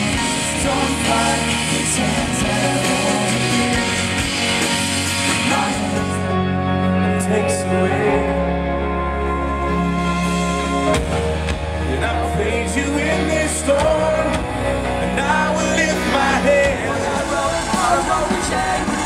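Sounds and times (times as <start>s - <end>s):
person singing: 0.0s - 11.0s, 11.7s - 19.0s
band playing: 0.0s - 19.0s.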